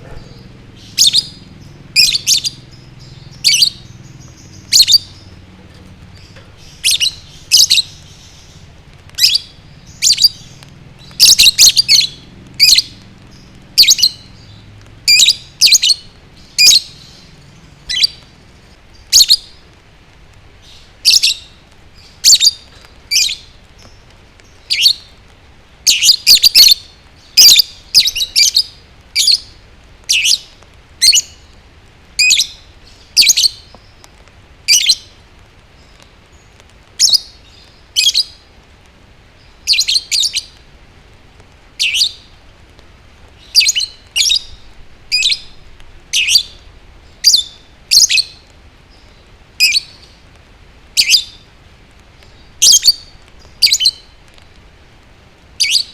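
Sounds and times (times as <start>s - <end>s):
lovebird chirping: 0.0s - 19.6s, 20.6s - 25.2s, 25.8s - 31.5s, 32.2s - 34.0s, 34.7s - 35.2s, 35.8s - 38.4s, 39.4s - 40.6s, 41.8s - 42.3s, 43.4s - 50.2s, 51.0s - 51.5s, 52.2s - 54.2s, 55.6s - 55.9s.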